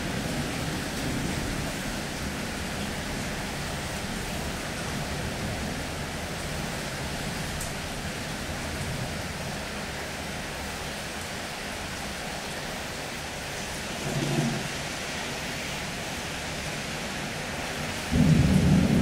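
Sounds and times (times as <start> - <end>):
rain hissing: 0.0 - 19.0.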